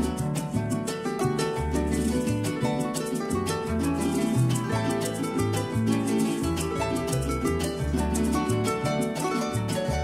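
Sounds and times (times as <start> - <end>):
bass line: 0.0 - 10.0
plucked-string melody: 0.0 - 10.0.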